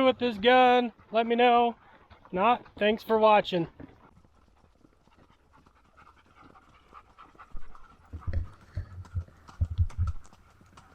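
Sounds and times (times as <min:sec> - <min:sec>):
animal panting: 0:00.0 - 0:10.9.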